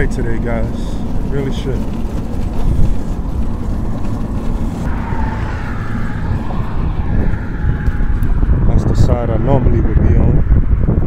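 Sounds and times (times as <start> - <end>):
traffic rumbling past: 0.0 - 11.0.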